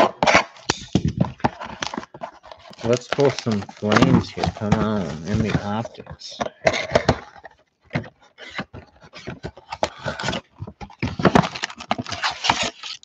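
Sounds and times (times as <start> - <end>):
card packs crinkling and rustling: 0.0 - 13.0.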